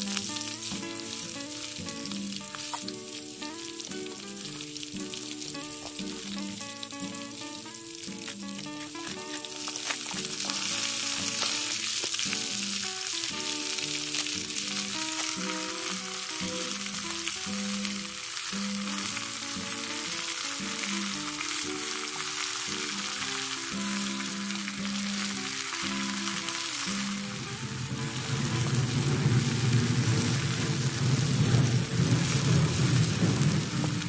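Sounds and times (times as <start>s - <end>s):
background music with held notes: 0.0s - 34.0s
greens sizzling in hot oil: 0.0s - 34.0s.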